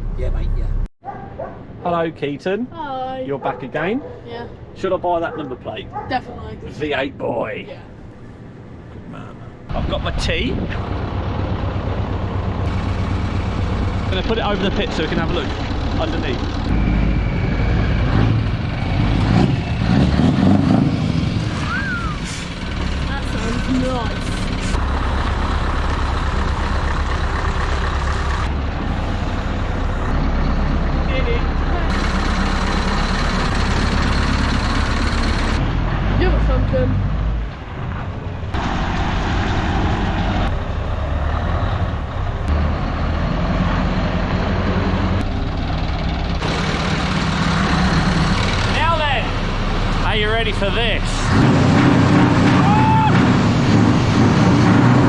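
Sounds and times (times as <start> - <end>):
truck engine running: 9.7 - 55.0.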